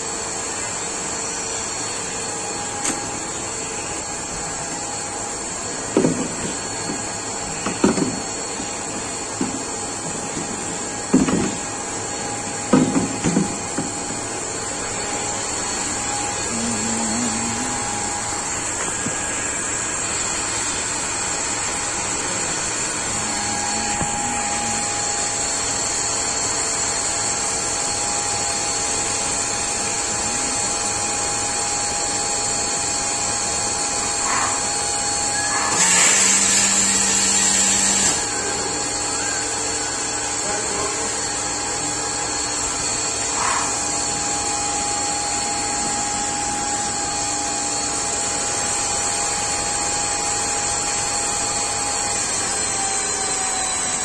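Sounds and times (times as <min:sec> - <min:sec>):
machine hum with whine: 0:00.0 - 0:54.0.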